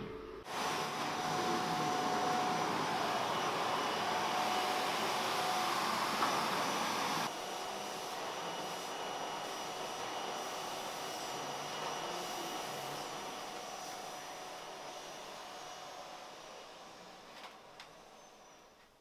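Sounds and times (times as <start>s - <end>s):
vacuum cleaner running: 0.0s - 18.8s.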